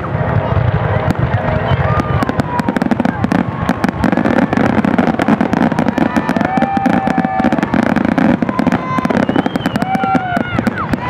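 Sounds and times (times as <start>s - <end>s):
fireworks bangs and crackling: 0.0s - 11.0s
fireworks whistling: 0.0s - 11.0s.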